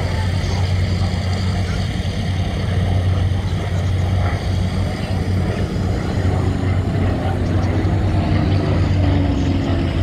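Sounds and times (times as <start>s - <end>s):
piston aircraft engines droning: 0.0s - 10.0s.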